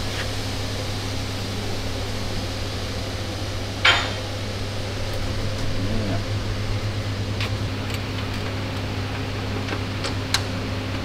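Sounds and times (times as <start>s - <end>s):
low workshop hum: 0.0s - 11.0s.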